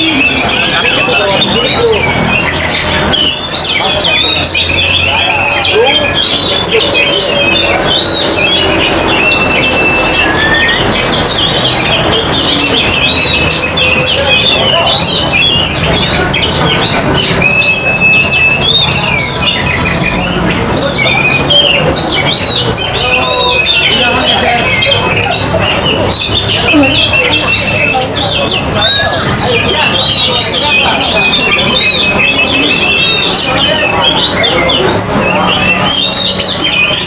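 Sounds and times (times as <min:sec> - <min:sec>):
low murmur: 0:00.0 - 0:37.0
songbirds singing: 0:00.0 - 0:37.0.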